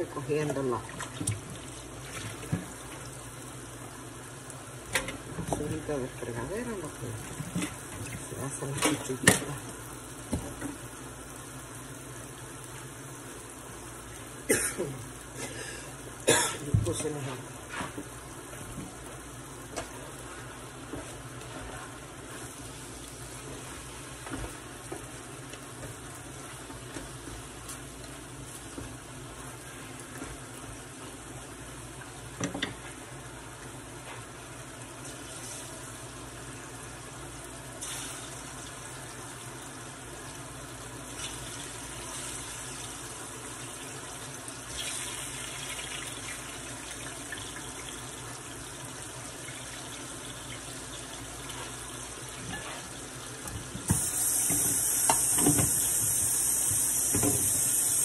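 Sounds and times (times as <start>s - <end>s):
food sizzling in a skillet: 1.8s - 58.0s.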